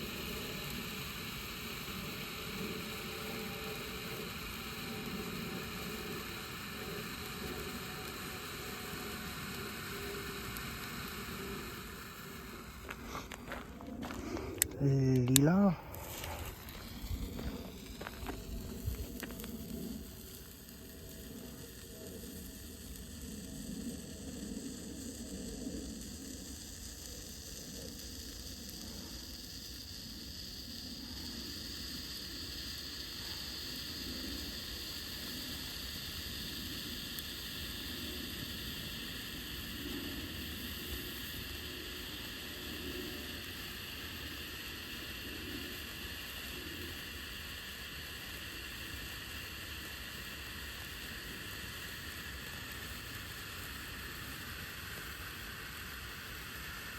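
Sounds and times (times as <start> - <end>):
firework hissing sizzle: 0.0 - 56.9.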